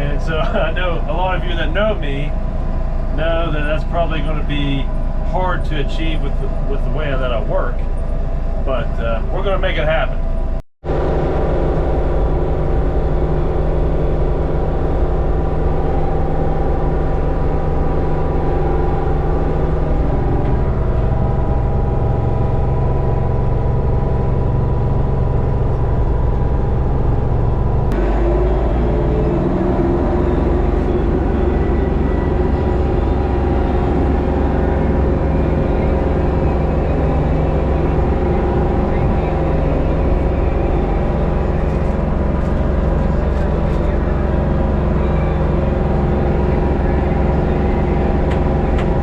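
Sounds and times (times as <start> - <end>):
diesel tractor engine under load: 0.0 - 49.0.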